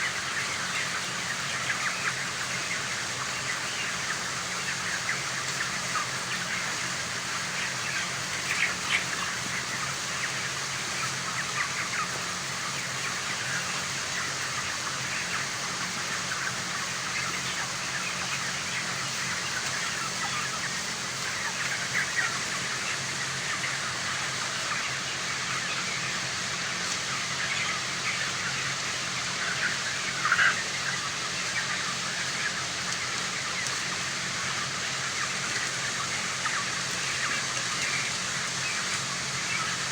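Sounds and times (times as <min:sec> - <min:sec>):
chicks cheeping: 0:00.0 - 0:39.9
loud chicken call: 0:00.0 - 0:39.9.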